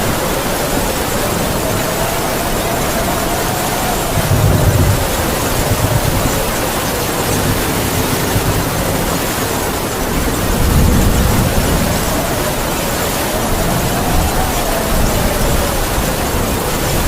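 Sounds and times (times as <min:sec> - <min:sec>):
heavy rain pouring: 0:00.0 - 0:17.0
wind howling: 0:00.0 - 0:17.0.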